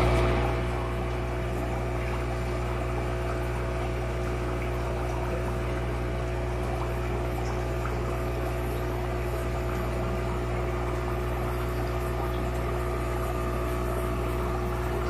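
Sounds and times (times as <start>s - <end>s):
aquarium pump humming: 0.0s - 15.0s.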